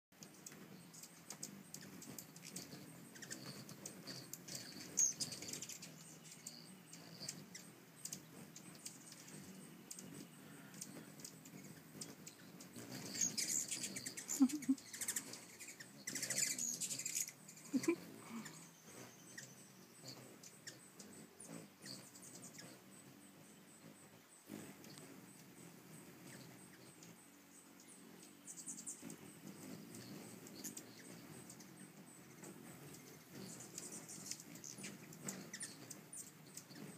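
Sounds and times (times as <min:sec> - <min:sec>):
hummingbird wings humming: 0:00.2 - 0:36.9
hummingbirds chipping and chattering: 0:00.2 - 0:36.9.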